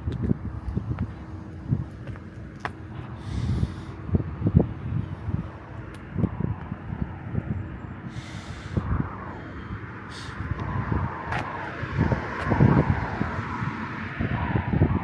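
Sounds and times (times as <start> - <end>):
road traffic passing: 0.0 - 15.0
wind buffeting microphone: 0.0 - 15.0.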